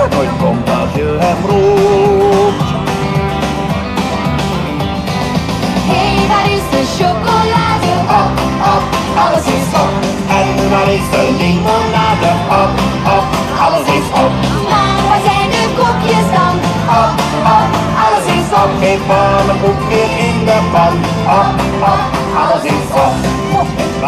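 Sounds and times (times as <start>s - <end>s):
loud music with steady beat: 0.0s - 24.0s.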